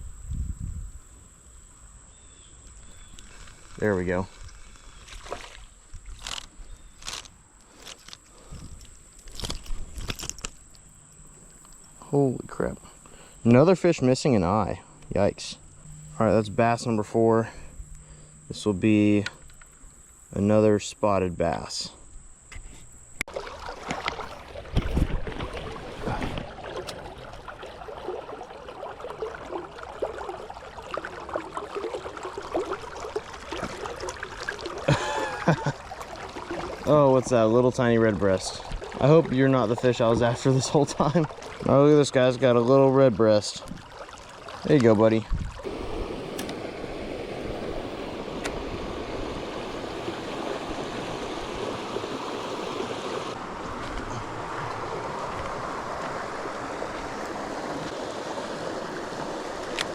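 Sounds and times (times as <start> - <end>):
creek water trickling over rocks: 2.4 - 20.2, 23.2 - 59.9.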